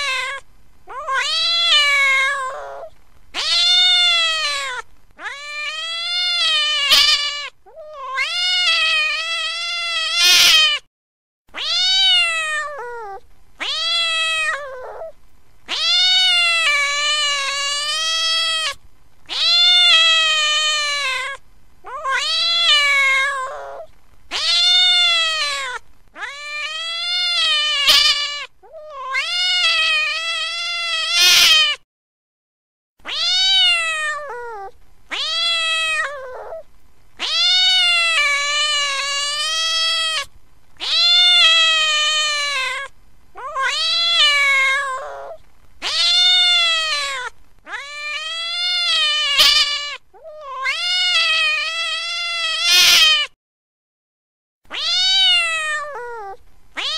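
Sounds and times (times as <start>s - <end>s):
cat meowing: 0.0s - 10.9s, 11.6s - 31.8s, 33.0s - 53.4s, 54.7s - 56.9s.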